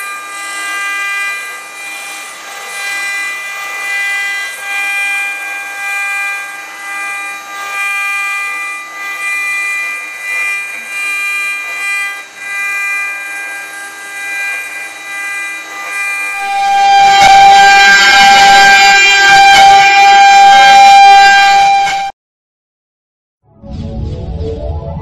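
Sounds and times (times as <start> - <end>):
metal cutting noise: 0.0 - 22.1
router spindle whining: 0.0 - 22.1.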